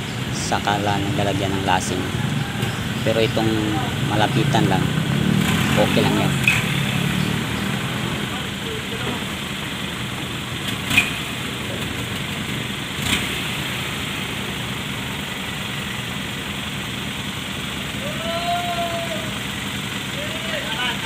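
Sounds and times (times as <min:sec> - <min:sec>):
vehicle engine noise: 0:00.0 - 0:21.0.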